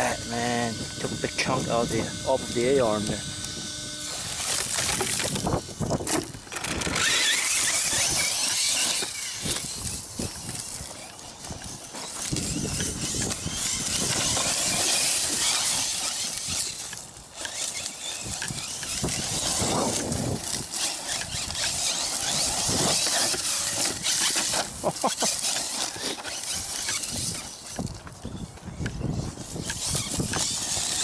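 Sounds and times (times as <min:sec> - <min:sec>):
tyres crunching over gravel: 0:00.0 - 0:31.0
toy truck chassis clattering: 0:04.1 - 0:27.9, 0:29.4 - 0:31.0.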